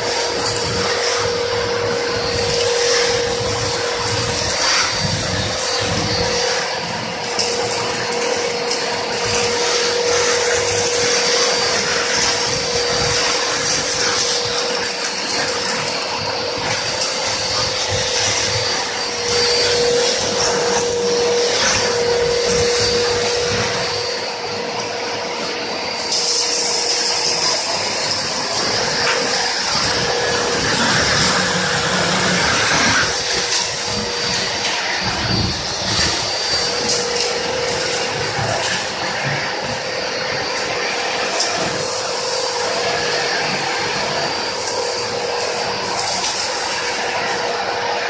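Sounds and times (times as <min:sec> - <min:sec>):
industrial vacuum cleaner whining: 0:00.0 - 0:48.0.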